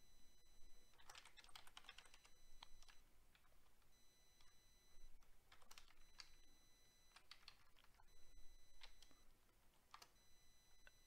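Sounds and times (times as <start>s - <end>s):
faint keyboard typing: 0.6s - 11.0s.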